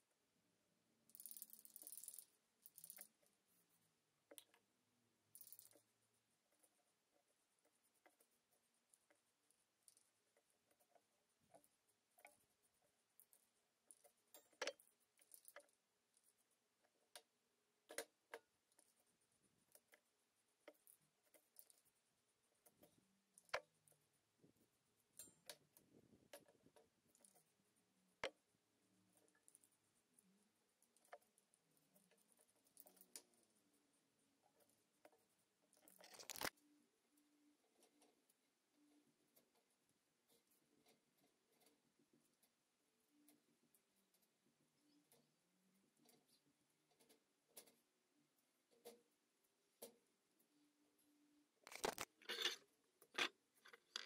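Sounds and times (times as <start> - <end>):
faint clicks and taps: 1.1 - 28.5, 29.1 - 33.8, 34.4 - 50.6.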